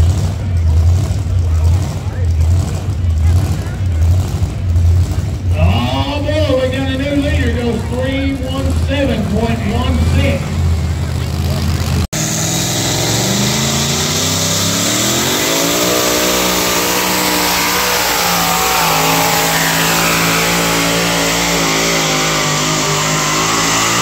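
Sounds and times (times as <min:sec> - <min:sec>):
truck engine at full throttle: 0:00.0 - 0:24.0.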